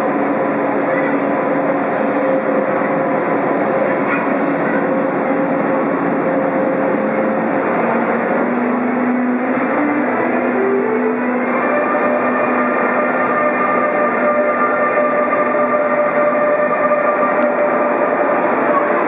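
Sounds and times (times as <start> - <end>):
cooling blowers rushing: 0.0 - 19.0.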